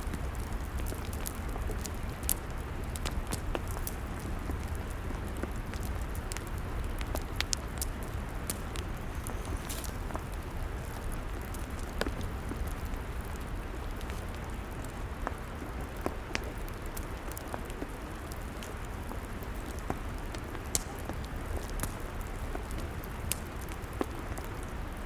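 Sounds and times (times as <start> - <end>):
log fire crackling: 0.0 - 25.0
fire pops and snaps: 0.1 - 24.7.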